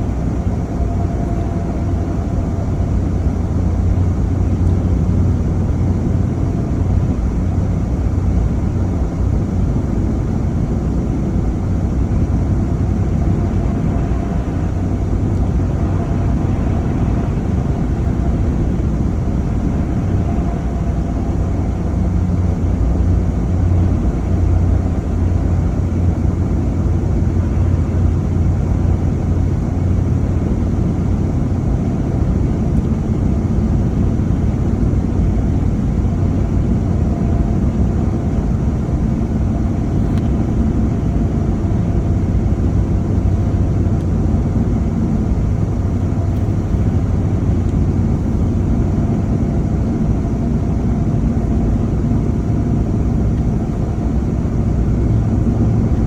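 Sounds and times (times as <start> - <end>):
car engine and road hum: 0.0 - 56.0.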